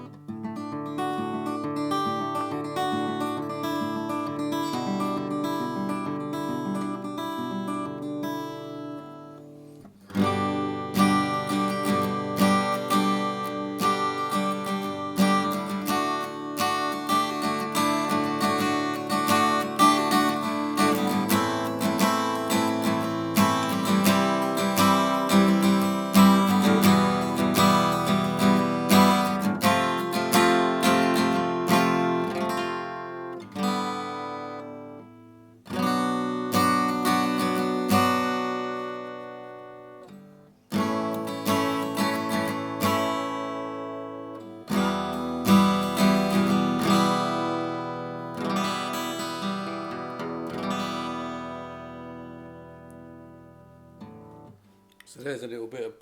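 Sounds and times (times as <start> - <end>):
acoustic guitar playing: 0.0 - 55.7.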